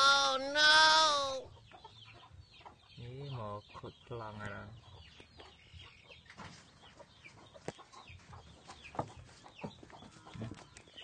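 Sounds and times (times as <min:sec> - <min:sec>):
chick chirping and clucking: 0:01.4 - 0:11.0.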